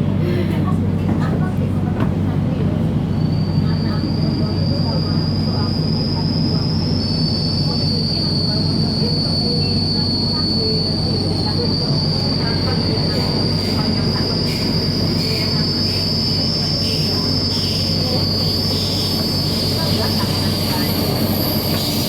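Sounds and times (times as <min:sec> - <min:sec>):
train wheels rumbling: 0:00.5 - 0:22.0
train high-pitched whine: 0:03.0 - 0:22.0.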